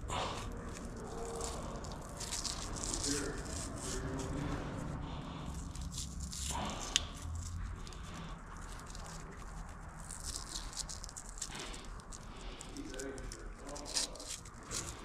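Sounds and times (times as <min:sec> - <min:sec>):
rustling and scraping of wires: 0:00.0 - 0:15.0.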